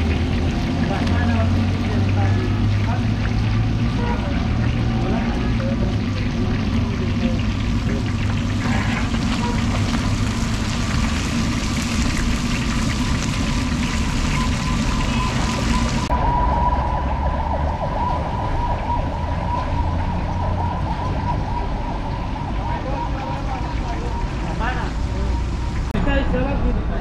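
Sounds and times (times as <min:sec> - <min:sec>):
fish deep-frying in oil: 0:00.0 - 0:25.9.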